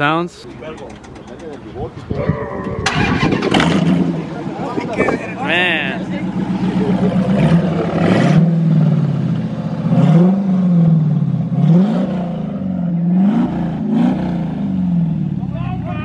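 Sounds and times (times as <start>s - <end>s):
car engine revving: 0.4s - 16.0s.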